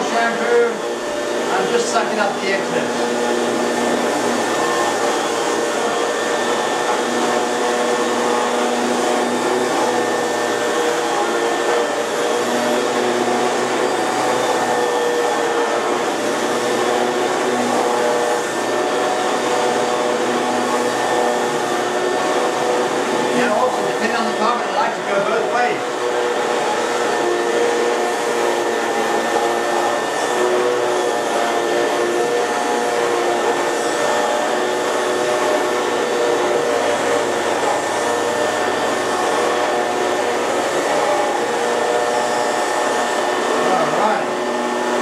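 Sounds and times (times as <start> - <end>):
vacuum motor whining: 0.0 - 45.0.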